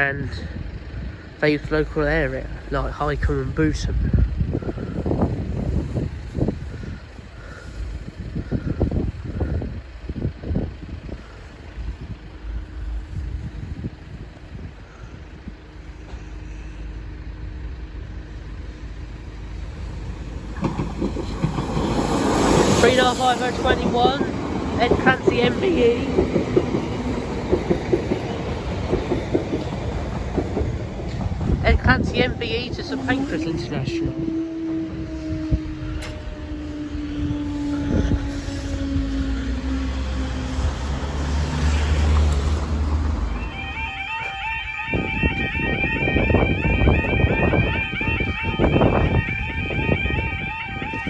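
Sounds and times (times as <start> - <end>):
electric train motors whining: 0.0 - 51.0
vehicle engine rumbling: 0.0 - 51.0.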